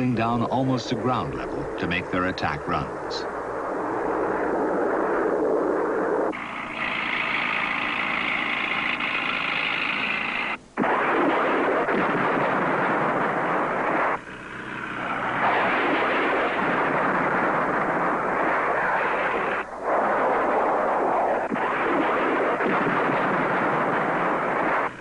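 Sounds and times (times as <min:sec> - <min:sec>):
jet engine noise: 0:00.0 - 0:25.0
rushing rocket noise: 0:00.0 - 0:25.0.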